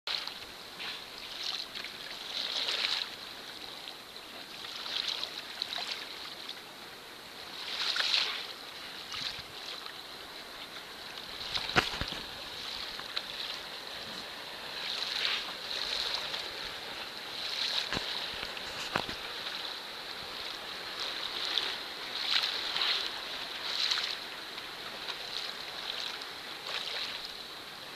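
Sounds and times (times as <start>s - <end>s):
water lapping against kayak hull: 0.1s - 6.6s, 7.3s - 27.6s.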